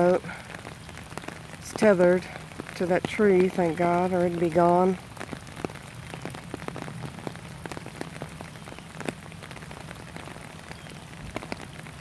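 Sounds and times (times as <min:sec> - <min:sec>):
rain falling: 0:00.0 - 0:12.0
raindrops ticking close by: 0:00.0 - 0:12.0.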